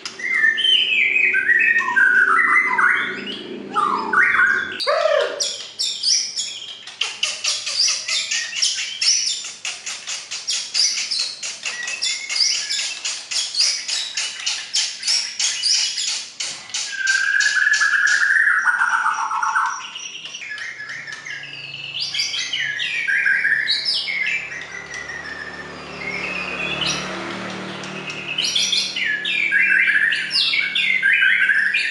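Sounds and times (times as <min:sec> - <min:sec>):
songbird singing: 0:00.0 - 0:31.9.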